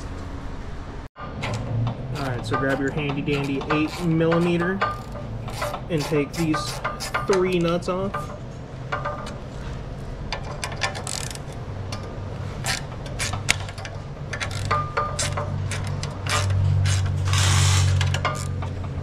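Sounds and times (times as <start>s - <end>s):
hand ratchet clicking: 1.5s - 8.3s, 10.3s - 18.9s.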